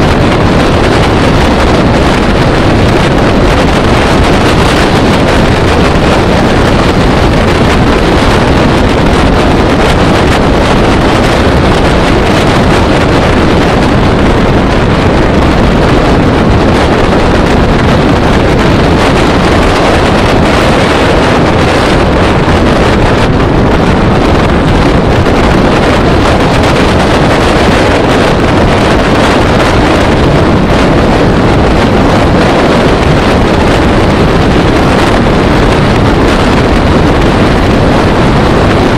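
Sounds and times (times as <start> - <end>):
road and engine noise: 0.0 - 38.9
wind buffeting microphone: 0.0 - 38.9.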